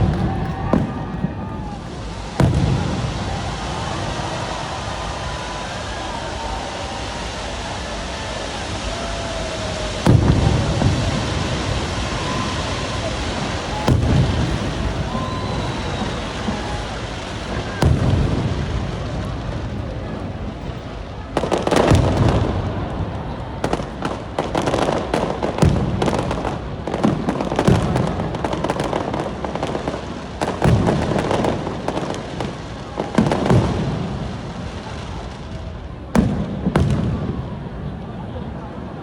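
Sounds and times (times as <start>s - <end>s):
fireworks booming: 0.0s - 39.0s
fireworks crackling and popping: 0.0s - 39.0s.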